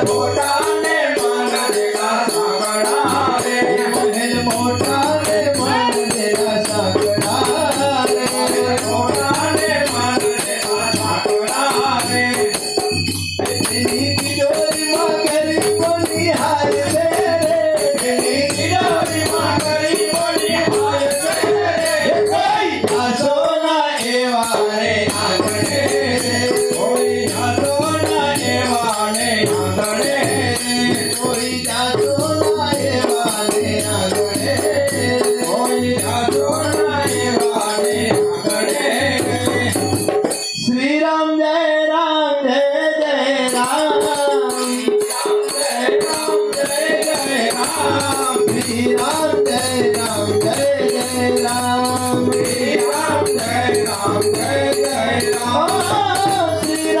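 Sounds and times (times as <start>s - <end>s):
tabla drum: 0.0s - 40.8s, 43.5s - 57.0s
jingling hand percussion: 0.0s - 41.0s, 43.3s - 57.0s
man singing: 0.0s - 57.0s.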